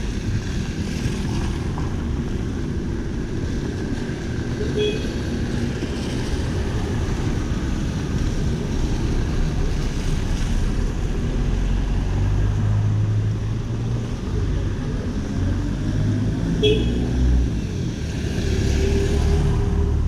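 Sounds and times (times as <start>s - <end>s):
street traffic in rain: 0.0s - 20.0s.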